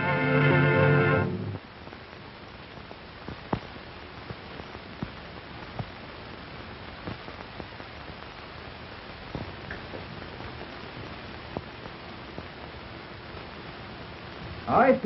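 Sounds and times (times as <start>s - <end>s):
film soundtrack surface hiss: 0.0s - 15.0s
crackles and pops: 1.3s - 15.0s.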